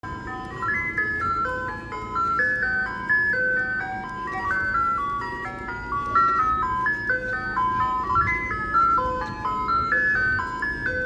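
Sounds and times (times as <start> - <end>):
ice cream truck jingle: 0.0 - 11.0.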